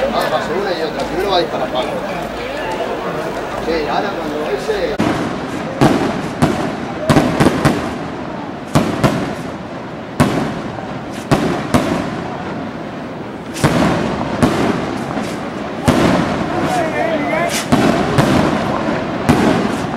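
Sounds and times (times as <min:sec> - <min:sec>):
firework rockets bursting: 0:00.5 - 0:19.9.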